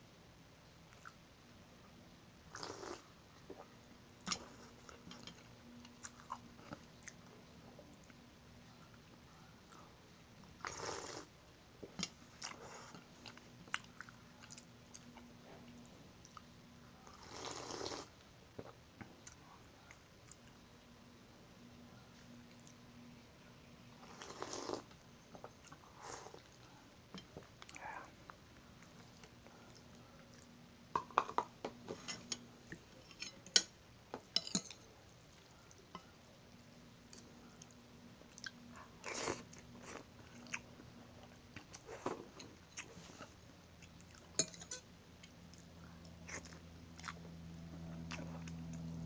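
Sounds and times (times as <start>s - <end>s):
soft chewing: 0.8s - 49.0s.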